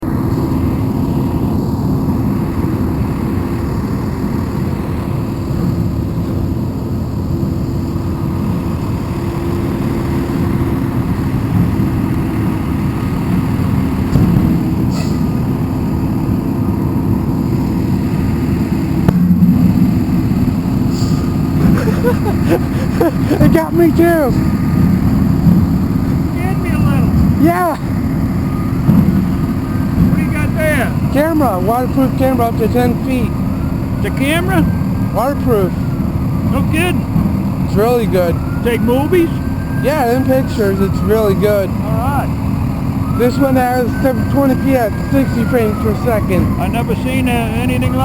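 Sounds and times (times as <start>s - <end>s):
heavy machinery engine droning: 0.0s - 48.0s.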